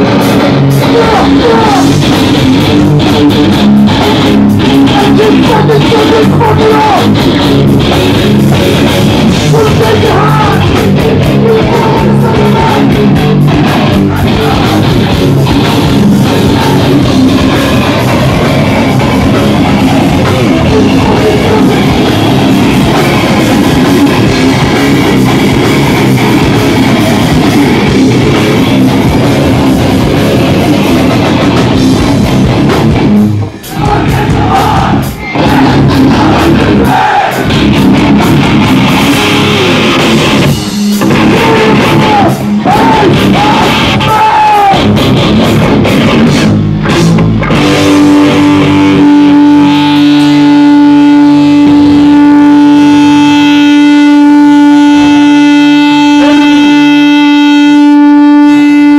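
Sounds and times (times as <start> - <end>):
bass guitar: 0.0 - 58.9
distorted electric guitars: 0.0 - 58.9
drum kit: 0.0 - 58.9.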